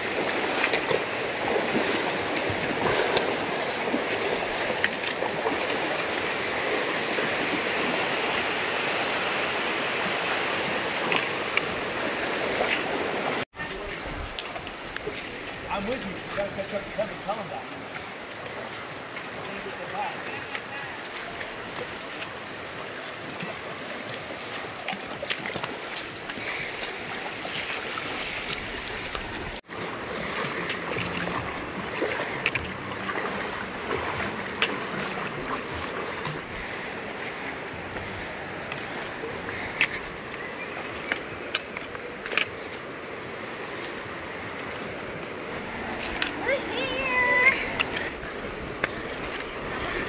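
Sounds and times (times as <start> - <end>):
river rushing over stones: 0.0 - 50.0
wading splashes: 0.0 - 50.0.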